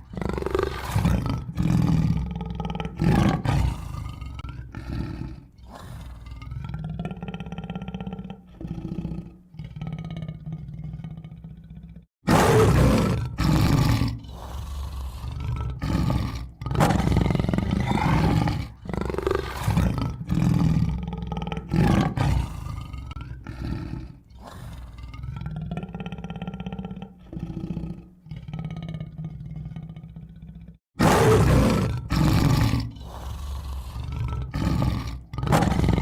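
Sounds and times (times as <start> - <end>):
tiger growling and roaring: 0.0 - 36.0.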